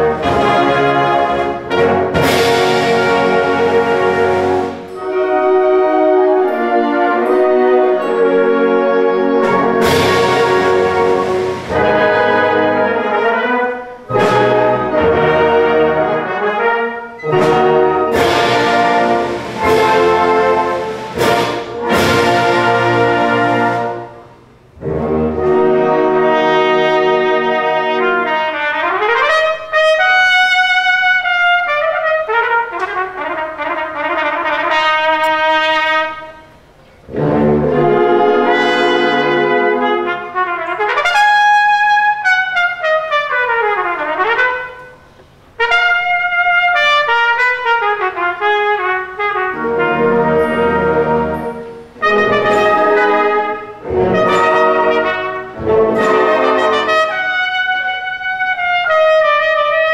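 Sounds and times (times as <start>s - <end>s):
band accompaniment: 0.0s - 59.9s
trumpet playing fast runs: 0.0s - 59.9s.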